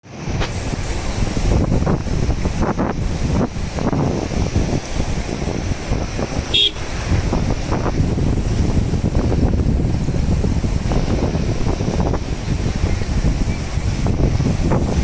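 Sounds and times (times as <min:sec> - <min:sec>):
river rushing: 0:00.0 - 0:15.0
wind buffeting microphone: 0:00.0 - 0:15.0.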